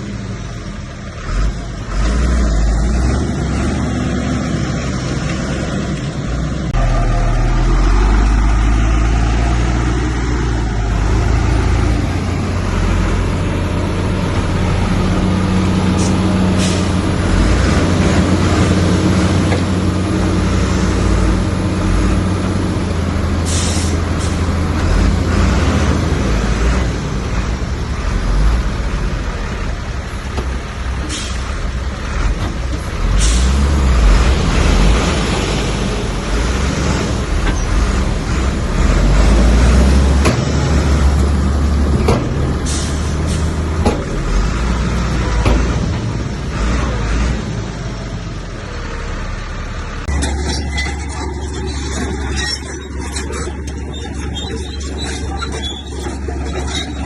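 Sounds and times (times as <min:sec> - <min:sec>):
heavy machinery diesel engines: 0:00.0 - 0:57.0.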